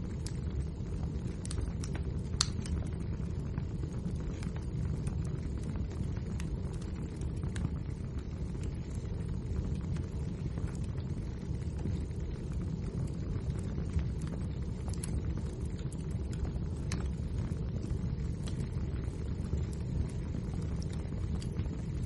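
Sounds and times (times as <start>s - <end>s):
fire low rumble: 0.0s - 22.0s
wood fire crackling and popping: 0.0s - 22.0s.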